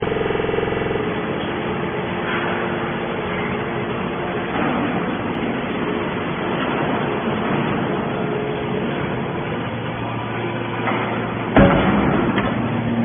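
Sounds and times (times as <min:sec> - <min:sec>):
machinery rumble: 0:00.0 - 0:13.0
pitched hum: 0:00.0 - 0:13.0.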